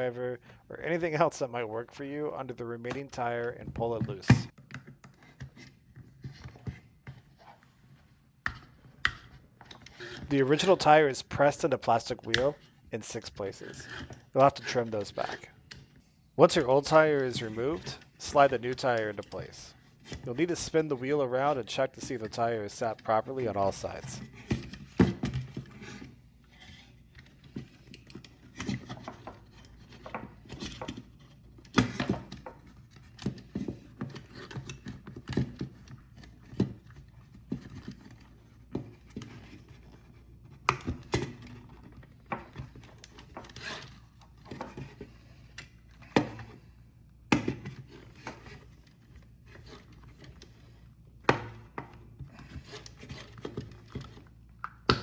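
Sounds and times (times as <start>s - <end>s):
rubber and plastic clicking and rubbing: 2.8s - 55.0s.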